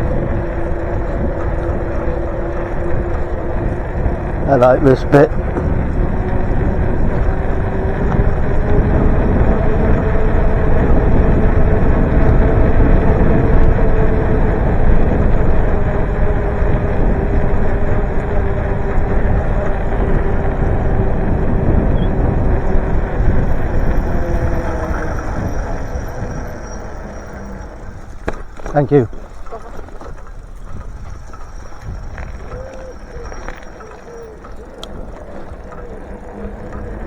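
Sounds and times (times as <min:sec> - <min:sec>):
low steady hum: 0:00.0 - 0:37.0
wind rushing over microphone: 0:00.0 - 0:37.0.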